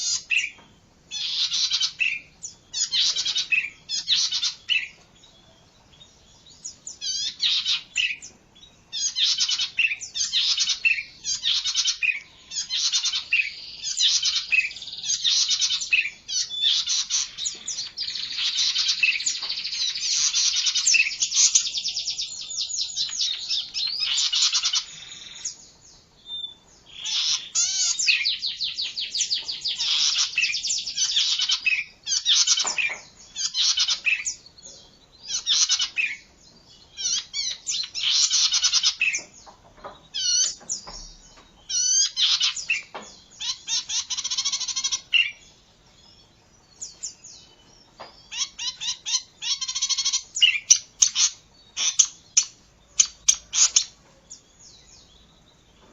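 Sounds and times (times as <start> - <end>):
songbird trilling and whistling: 0.0 - 55.9.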